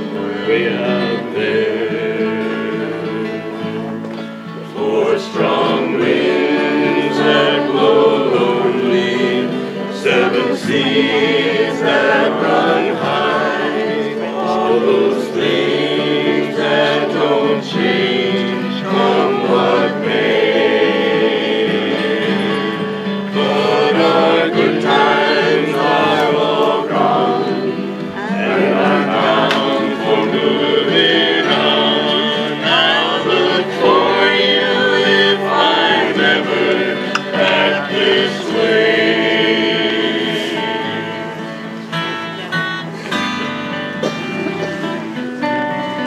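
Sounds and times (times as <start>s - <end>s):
group singing folk song: 0.0s - 46.0s
strummed acoustic guitars: 0.0s - 46.0s.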